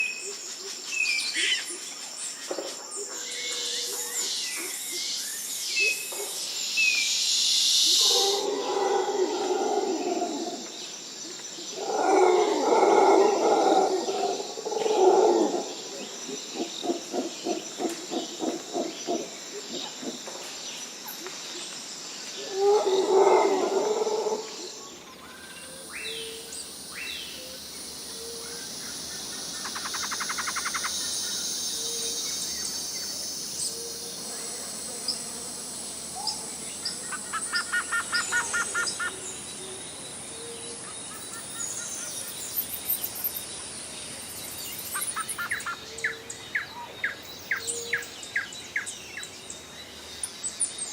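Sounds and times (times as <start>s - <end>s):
high insect drone: 0.0s - 50.9s.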